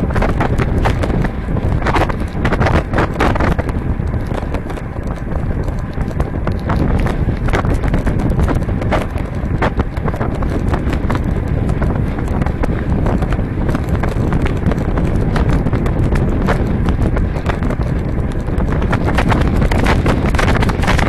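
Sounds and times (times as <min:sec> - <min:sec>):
tyres rumbling on road: 0:00.0 - 0:21.0
wind buffeting microphone: 0:00.0 - 0:21.0.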